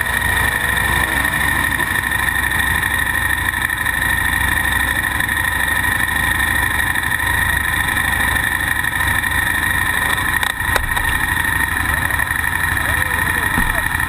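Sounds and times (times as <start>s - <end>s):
motorcycle engine idling: 0.0s - 14.0s
steady high whine: 0.0s - 14.0s.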